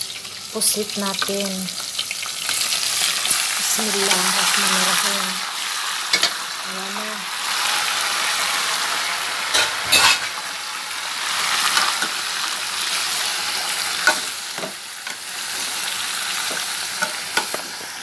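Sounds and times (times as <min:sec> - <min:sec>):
squid sizzling in hot oil: 0:00.0 - 0:18.0.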